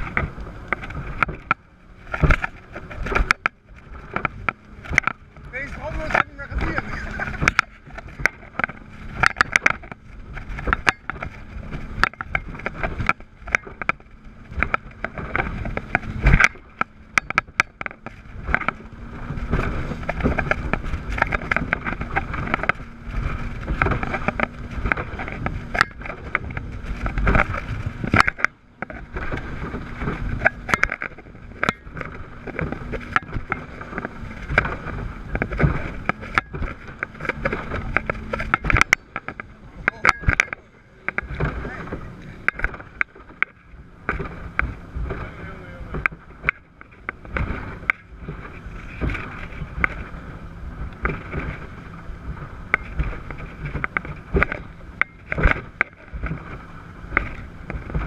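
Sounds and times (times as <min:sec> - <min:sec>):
hull slapping through waves: 0:00.0 - 0:58.0
outboard engines drone: 0:00.0 - 0:58.0
rushing water and air: 0:00.0 - 0:58.0.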